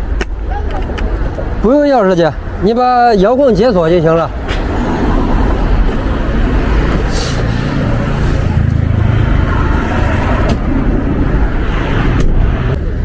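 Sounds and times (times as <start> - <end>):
motor vehicle rumble: 0.0 - 13.0.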